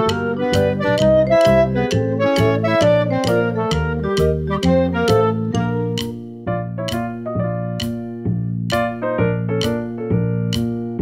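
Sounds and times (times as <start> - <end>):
piano chords: 0.0 - 11.0
steady beat: 0.0 - 11.0.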